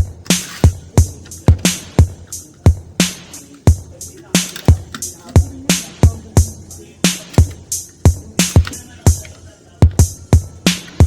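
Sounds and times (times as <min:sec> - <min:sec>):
hip-hop drum machine beat: 0:00.0 - 0:11.0.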